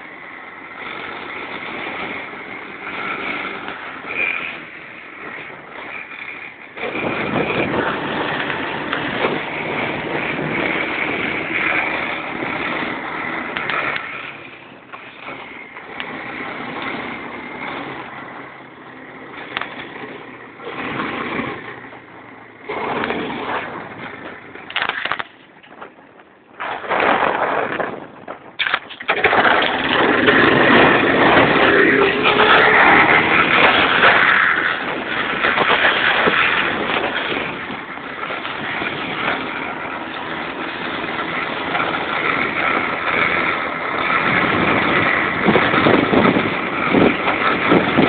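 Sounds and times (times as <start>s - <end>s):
quad bike engine running: 0.0s - 48.0s
rumble of riding on dirt track: 0.0s - 48.0s.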